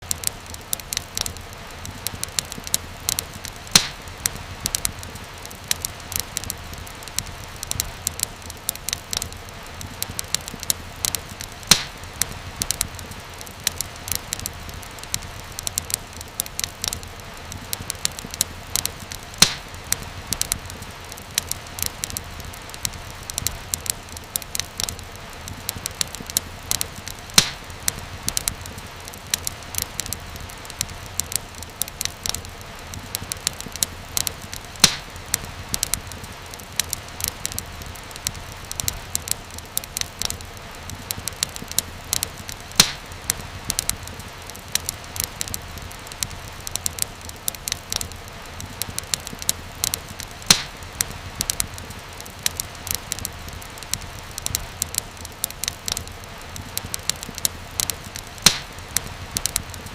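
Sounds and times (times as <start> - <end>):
fireplace fire crackling: 0.0 - 59.9
loud fire snaps: 0.0 - 59.9.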